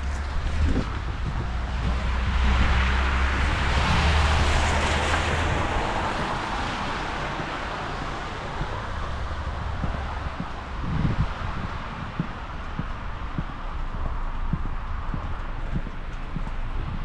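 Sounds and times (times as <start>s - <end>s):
tyres hissing on wet street: 0.0s - 16.8s
low engine hum: 0.0s - 17.0s.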